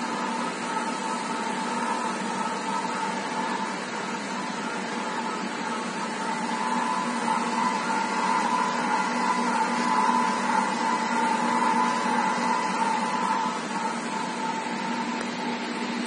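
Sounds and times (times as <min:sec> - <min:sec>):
welder hum: 0:00.0 - 0:16.0.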